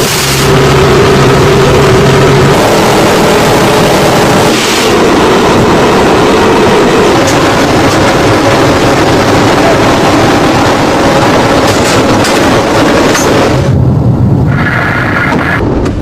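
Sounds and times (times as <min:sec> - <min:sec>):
lower hum: 0:00.0 - 0:16.0
turboprop engines roaring: 0:00.0 - 0:16.0.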